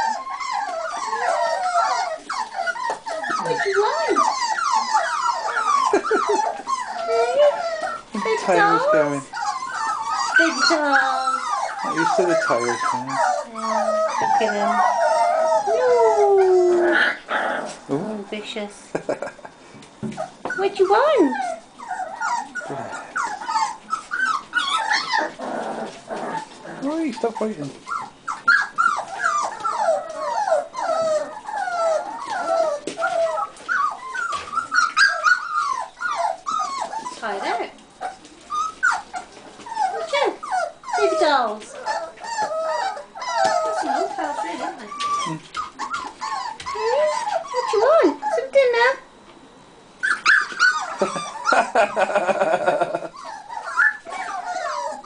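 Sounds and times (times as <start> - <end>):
puppies whining and whimpering: 0.0 - 18.6, 20.1 - 55.0.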